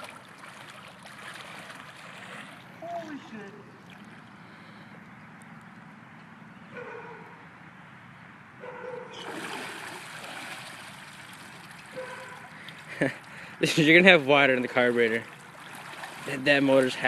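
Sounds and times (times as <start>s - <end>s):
water sloshing and streaming: 0.0s - 17.0s.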